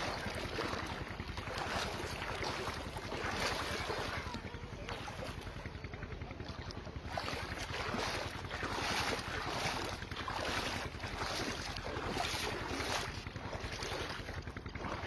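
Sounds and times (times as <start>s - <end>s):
water splashing while wading: 0.0s - 15.0s.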